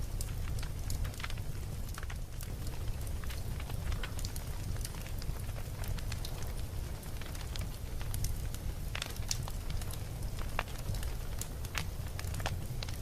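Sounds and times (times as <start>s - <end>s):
campfire crackling: 0.0s - 13.0s
fire snap: 0.0s - 13.0s
low steady rumble: 0.0s - 13.0s.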